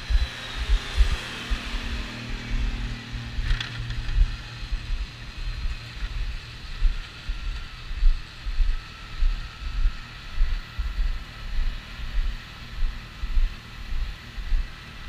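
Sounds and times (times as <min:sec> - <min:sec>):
tractor engine running: 0:00.0 - 0:14.7
wind buffeting microphone: 0:00.0 - 0:14.7.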